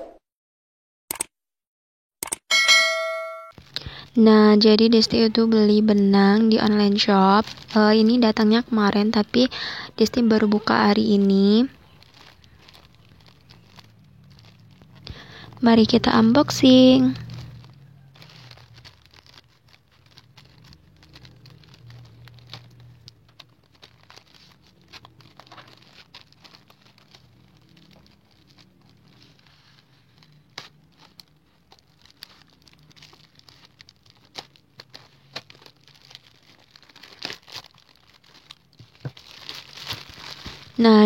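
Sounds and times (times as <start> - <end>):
packaging crinkling and tearing: 3.5 - 41.0.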